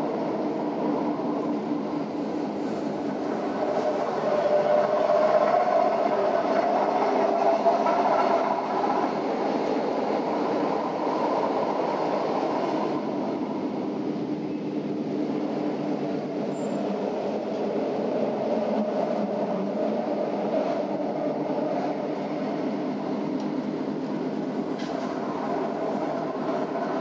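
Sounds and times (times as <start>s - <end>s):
train rumble and wheel noise: 0.0s - 27.0s.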